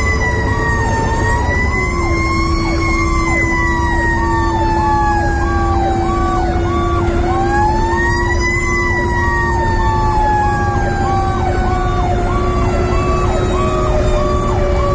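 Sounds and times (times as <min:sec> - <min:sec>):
low road noise: 0:00.0 - 0:14.9
quick repeating siren: 0:00.0 - 0:14.9
siren wailing: 0:00.0 - 0:14.9.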